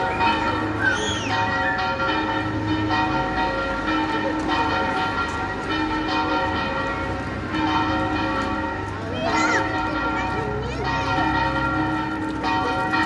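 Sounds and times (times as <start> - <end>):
bells ringing: 0.0 - 13.0.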